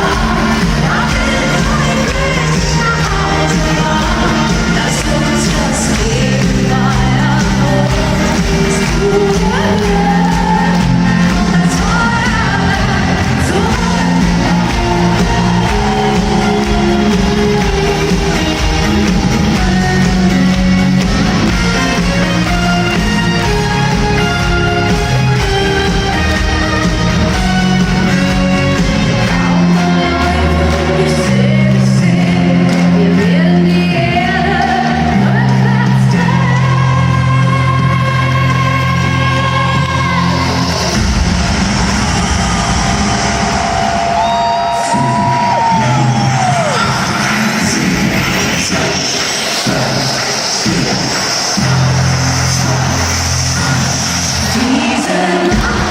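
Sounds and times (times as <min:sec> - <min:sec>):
person singing: 0:00.0 - 0:41.2, 0:44.2 - 0:55.9
live band playing: 0:00.0 - 0:55.9
crowd shouting and whooping: 0:07.2 - 0:55.9.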